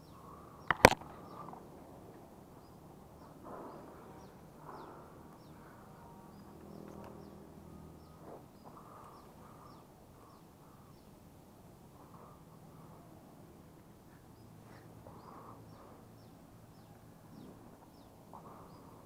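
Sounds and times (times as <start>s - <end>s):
bird chirping: 0.0s - 1.8s, 2.5s - 11.2s, 14.1s - 19.0s.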